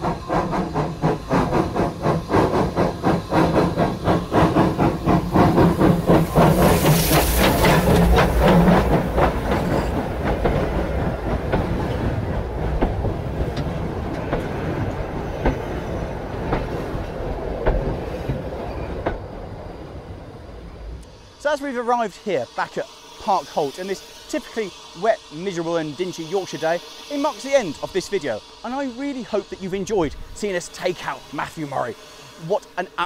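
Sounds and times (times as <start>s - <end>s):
rush of steam: 0.0s - 33.0s
steam locomotive chuffing: 0.0s - 33.0s.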